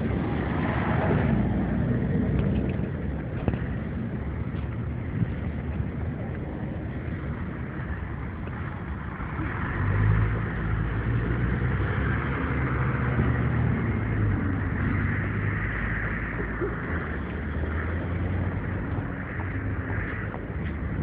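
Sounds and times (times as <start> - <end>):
hum of passing cars: 0.0 - 21.0
low rumble: 0.0 - 21.0.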